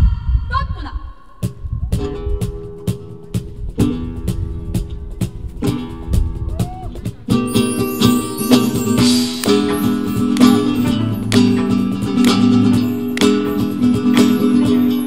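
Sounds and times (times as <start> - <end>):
flamenco acoustic guitar music: 2.0 - 15.0
sharp percussive beat: 2.5 - 15.0.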